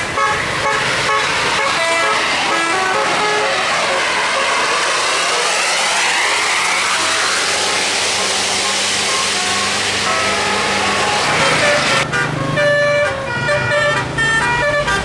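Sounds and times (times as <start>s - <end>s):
loud rushing hiss: 0.0s - 12.2s
bus engine running: 0.0s - 15.0s
musical air horn notes: 0.0s - 15.0s.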